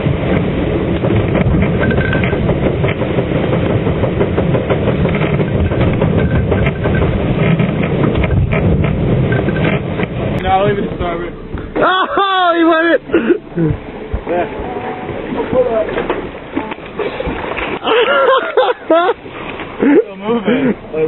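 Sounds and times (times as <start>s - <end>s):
sea: 0.0s - 21.0s
wind: 0.0s - 21.0s.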